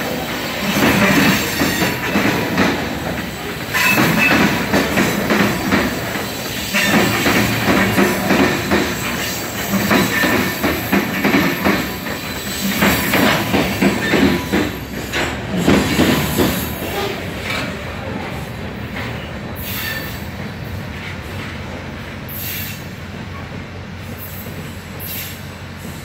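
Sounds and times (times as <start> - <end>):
freight train rumble: 0.0 - 26.0
train wheels clacking over rail joints: 0.0 - 26.0.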